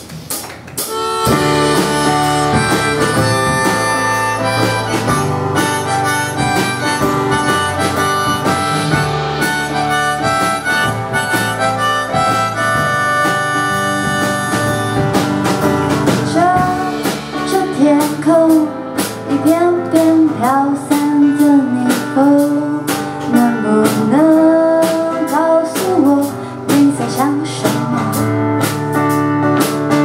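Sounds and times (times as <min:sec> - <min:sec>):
pop-rock band playing: 0:00.0 - 0:30.0.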